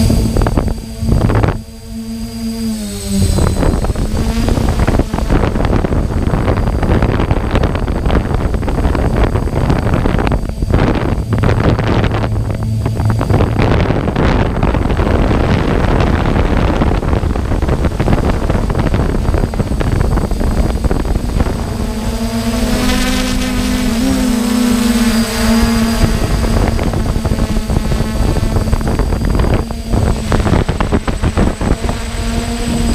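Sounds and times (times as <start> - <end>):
drone propellers whirring: 0.0 - 32.9
wind buffeting microphone: 0.0 - 32.9.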